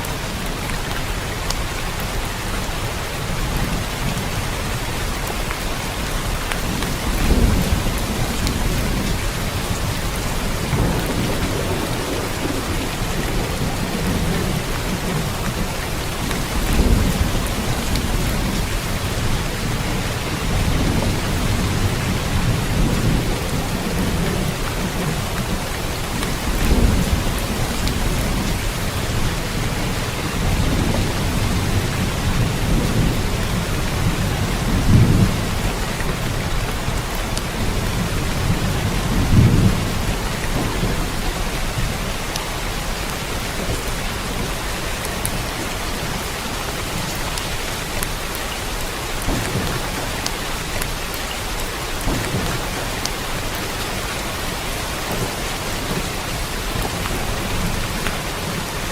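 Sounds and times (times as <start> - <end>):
steady rain hissing: 0.0 - 58.9
thunder rumbling: 6.3 - 48.1, 49.1 - 58.9.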